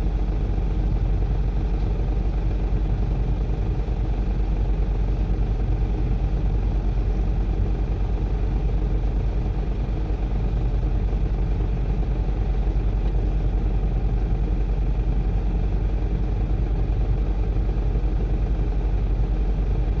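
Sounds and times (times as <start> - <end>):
heavy machine engine droning: 0.0 - 20.0.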